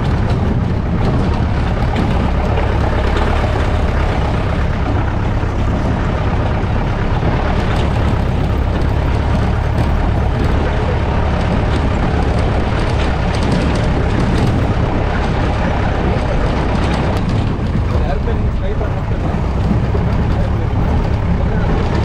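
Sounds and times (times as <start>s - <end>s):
engine rumble: 0.0s - 22.0s
vehicle knocks and rattles: 0.0s - 22.0s.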